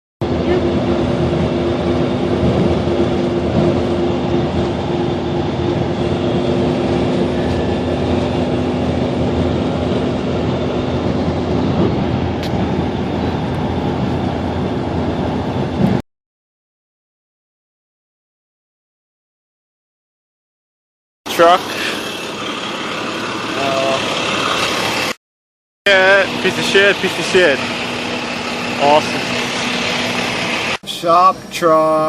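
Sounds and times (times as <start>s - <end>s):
car road and engine noise: 0.2s - 16.0s, 21.3s - 25.2s, 25.9s - 32.0s.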